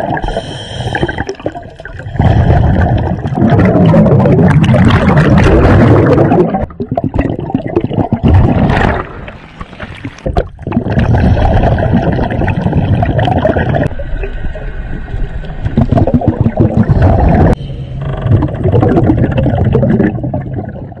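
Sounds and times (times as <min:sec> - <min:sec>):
underwater gurgling and rushing water: 0:00.0 - 0:21.0.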